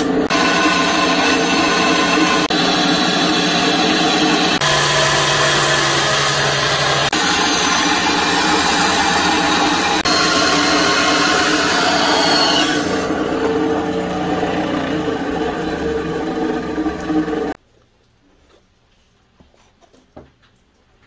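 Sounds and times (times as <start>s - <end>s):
bandsaw cutting wood: 0.0s - 17.6s
belt sander sanding wood: 0.0s - 17.6s.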